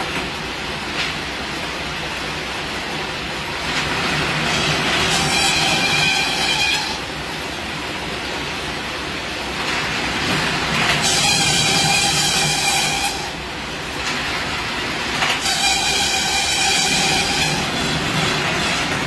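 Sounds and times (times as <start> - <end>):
machine running steadily: 0.0 - 19.0.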